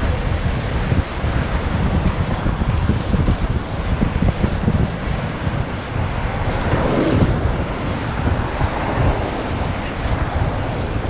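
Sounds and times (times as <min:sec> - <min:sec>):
traffic noise: 0:00.0 - 0:11.0
wind buffeting microphone: 0:00.0 - 0:11.0.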